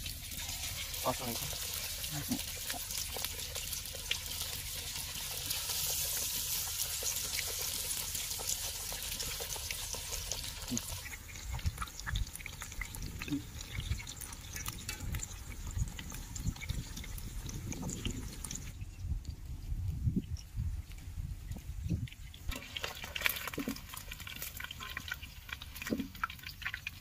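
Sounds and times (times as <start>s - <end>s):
chicken deep-frying in oil: 0.0s - 27.0s.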